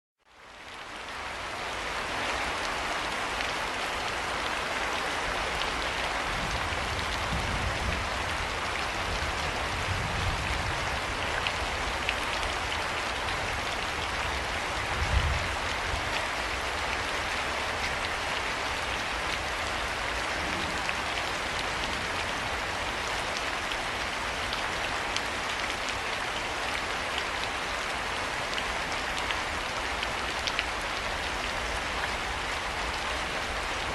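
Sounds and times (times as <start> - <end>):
rain falling: 0.3 - 33.9.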